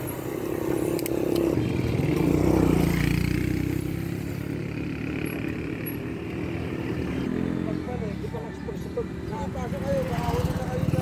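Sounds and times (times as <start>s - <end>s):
motorcycle passing by: 0.0s - 11.0s.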